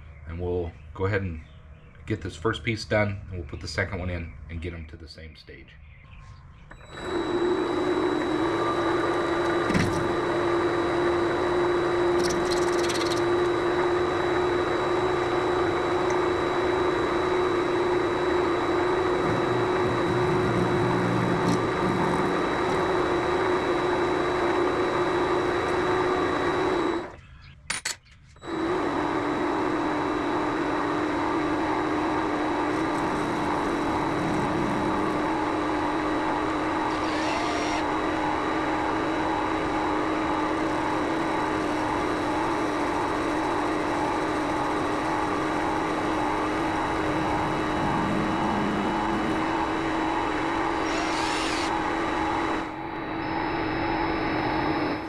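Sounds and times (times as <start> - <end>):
lathe motor hum and whine: 6.7 - 27.2, 28.4 - 55.0.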